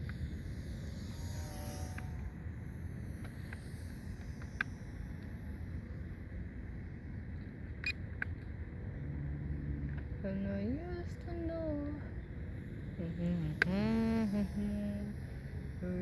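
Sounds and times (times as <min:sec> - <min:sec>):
faint model plane motor whine: 0:00.0 - 0:16.0.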